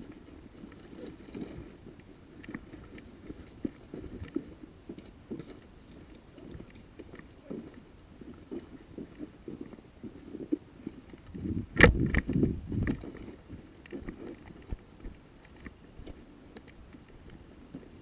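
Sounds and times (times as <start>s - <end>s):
footsteps and gear rustling: 0.0s - 18.0s.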